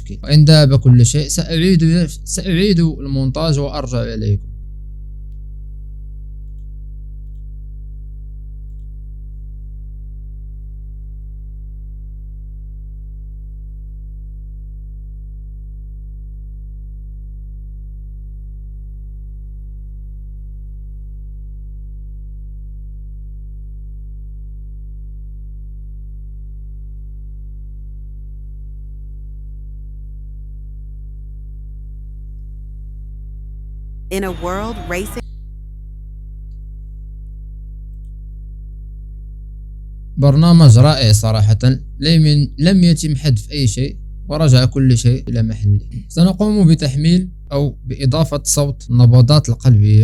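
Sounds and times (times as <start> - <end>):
low electronic buzz: 0.0 - 50.0.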